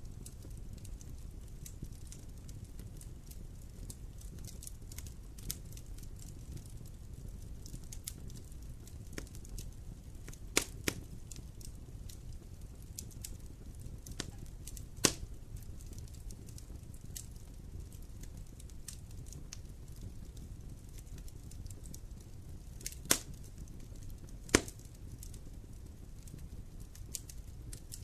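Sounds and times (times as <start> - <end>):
campfire rumbling: 0.0 - 28.0
fire crackles: 0.0 - 28.0
sharp pops of burning wood: 0.1 - 28.0.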